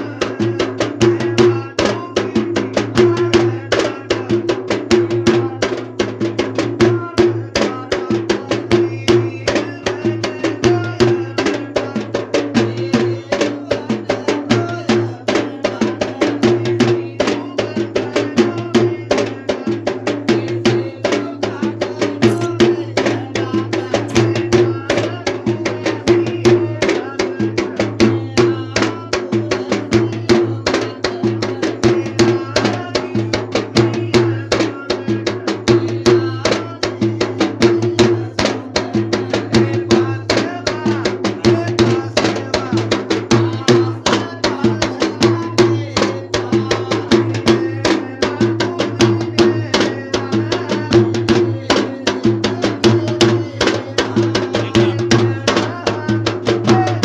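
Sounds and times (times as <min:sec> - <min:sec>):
fast ritual drumming: 0:00.0 - 0:57.0.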